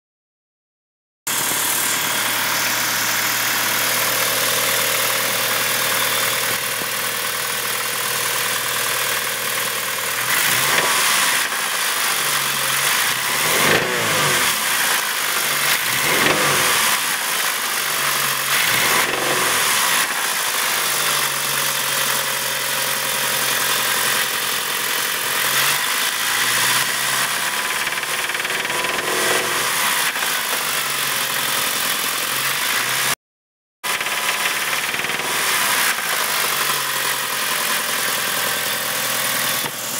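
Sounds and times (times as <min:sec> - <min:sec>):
turbocharged car engine revving: 0:01.3 - 0:33.2, 0:33.9 - 0:39.9.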